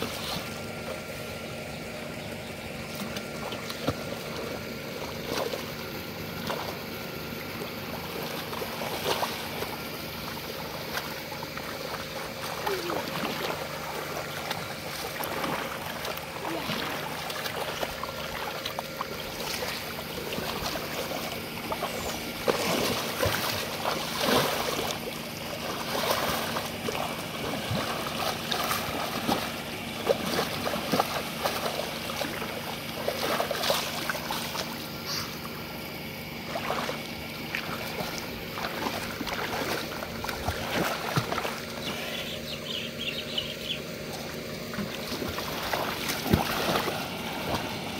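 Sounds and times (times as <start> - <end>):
muddy water splashing: 0.0 - 47.9.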